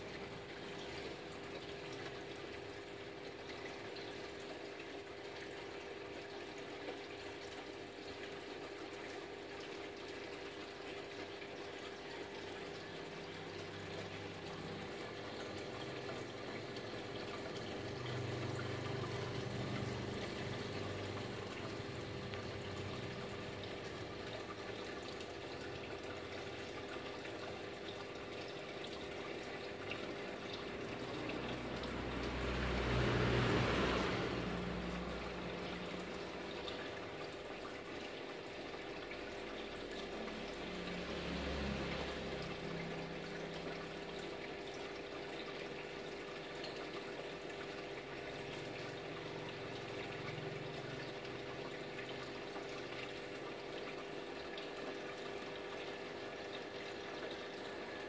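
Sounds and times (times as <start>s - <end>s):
aquarium water trickling: 0.0s - 58.0s.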